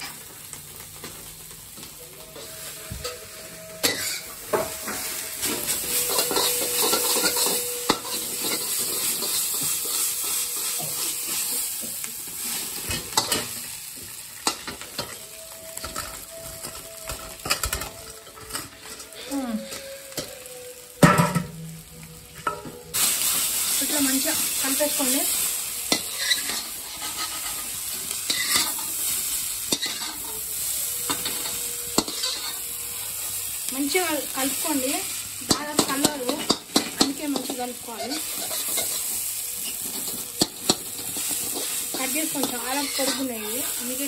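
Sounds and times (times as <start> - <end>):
noodles sizzling in a pan: 0.0 - 44.0
metal spatula scraping a pan: 1.7 - 13.8, 14.4 - 21.6, 22.3 - 44.0.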